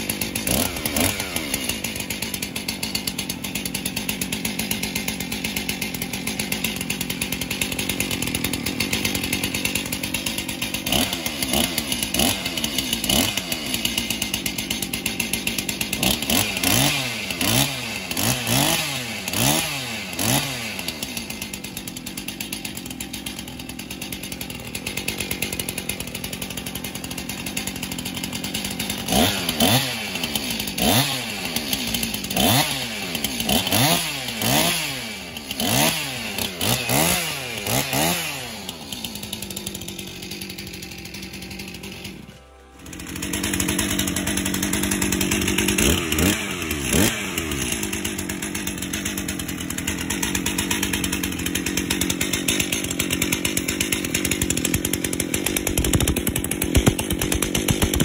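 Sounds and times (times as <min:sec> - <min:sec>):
chainsaw revving: 0:00.0 - 0:58.0.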